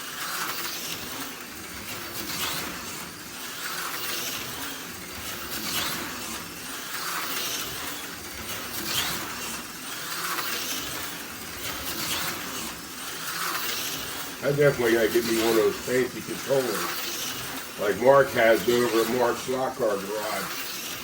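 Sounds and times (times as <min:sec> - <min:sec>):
slot car motor whining: 0:00.0 - 0:21.0
slot car wheels hissing: 0:00.0 - 0:21.0.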